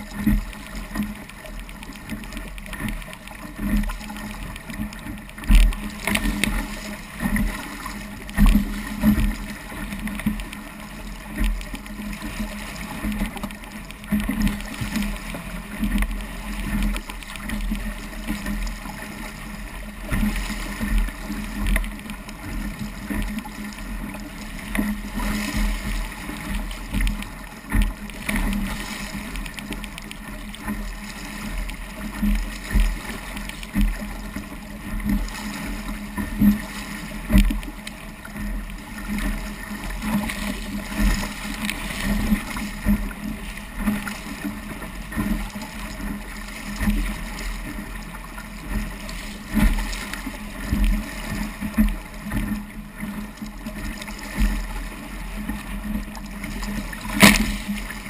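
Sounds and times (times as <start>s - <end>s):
hull slapping waves: 0.0s - 58.0s
water rushing along hull: 0.0s - 58.0s.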